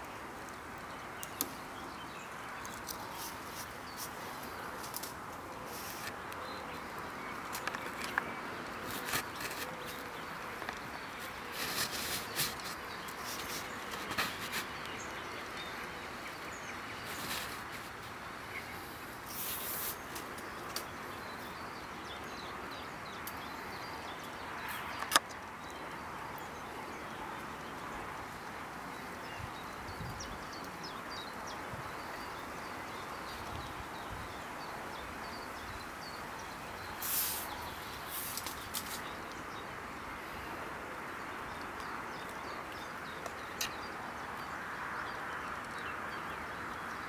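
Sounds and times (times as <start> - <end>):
faint birdsong: 0.0 - 47.0
steady background hiss: 0.0 - 47.0.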